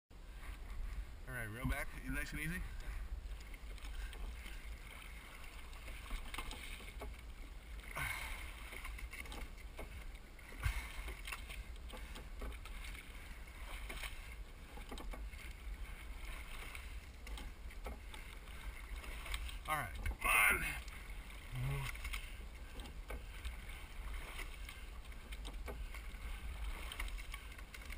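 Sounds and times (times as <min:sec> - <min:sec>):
water swishing along hull: 0:00.1 - 0:27.9
oar blades in water: 0:00.2 - 0:27.9.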